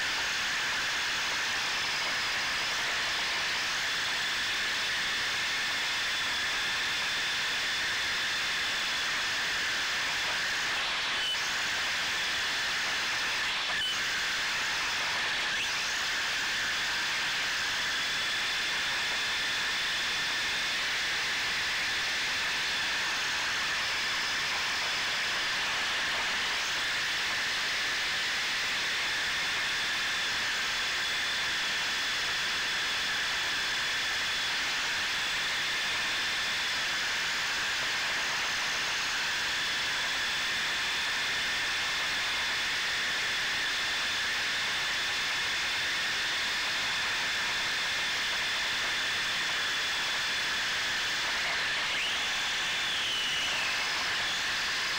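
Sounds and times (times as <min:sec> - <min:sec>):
high-pitched motor whine: 0:00.0 - 0:54.9.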